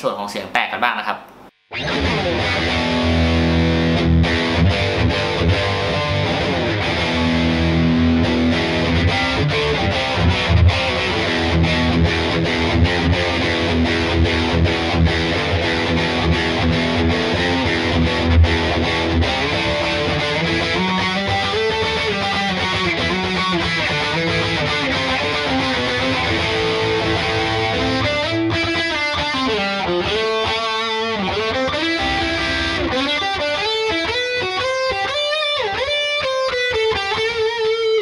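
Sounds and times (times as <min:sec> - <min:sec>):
distorted electric guitar riffing: 0:01.1 - 0:38.0.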